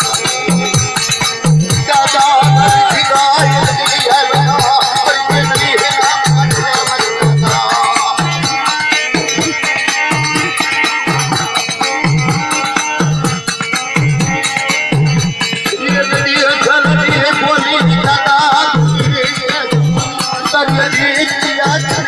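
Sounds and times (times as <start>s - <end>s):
fast rattling percussion: 0.0s - 22.0s
music with low drum beat: 0.0s - 22.0s.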